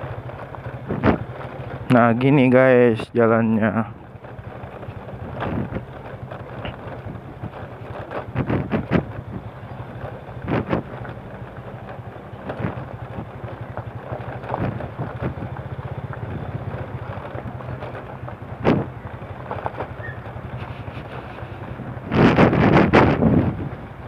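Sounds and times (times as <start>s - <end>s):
motorcycle engine at low speed: 0.0s - 24.0s
tyres on loose gravel: 0.0s - 24.0s
motorcycle jolting knocks: 0.2s - 2.0s, 4.0s - 23.6s.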